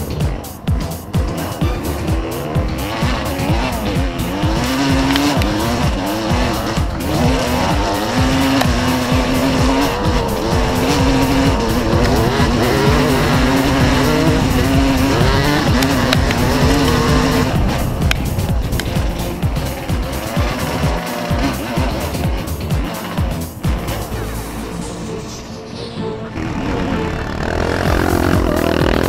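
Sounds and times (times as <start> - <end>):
dirt bike engine revving: 0.0 - 25.6, 26.3 - 29.0.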